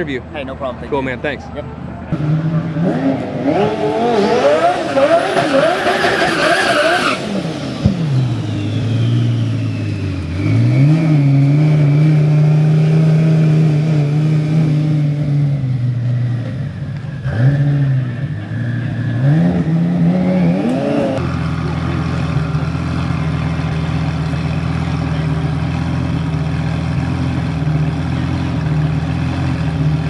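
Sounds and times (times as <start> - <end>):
car engine revving: 2.1 - 30.0.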